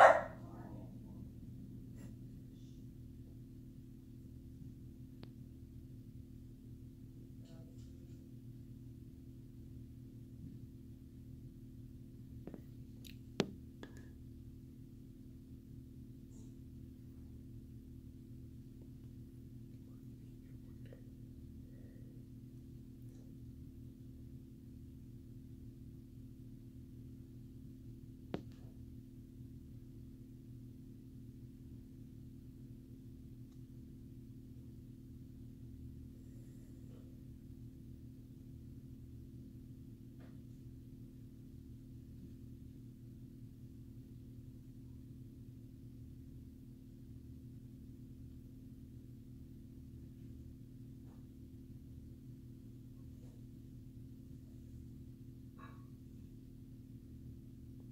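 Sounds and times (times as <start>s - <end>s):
low hum of held tones: 0.0s - 57.9s.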